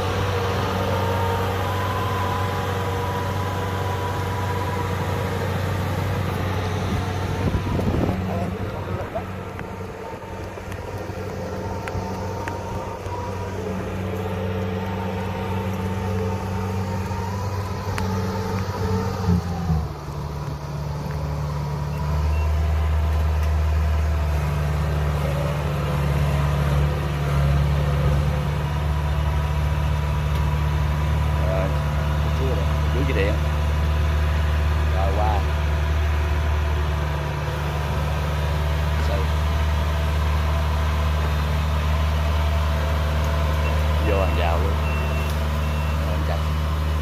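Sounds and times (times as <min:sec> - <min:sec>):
combine harvester engine: 0:00.0 - 0:47.0.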